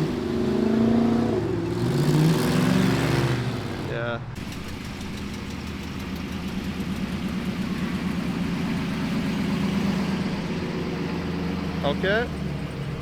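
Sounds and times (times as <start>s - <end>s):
car engine rumbling at low revs: 0.0s - 13.0s.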